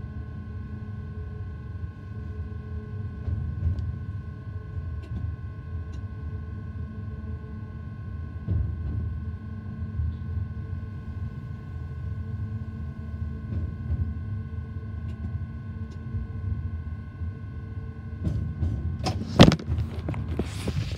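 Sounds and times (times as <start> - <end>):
locomotive low rumble: 0.0 - 20.9
steady whining tones: 0.0 - 20.9.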